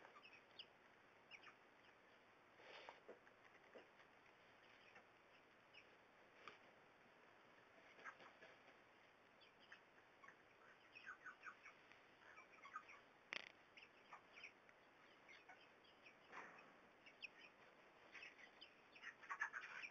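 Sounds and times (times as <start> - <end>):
chicks peeping and chirping: 0.0 - 6.6, 7.7 - 19.9.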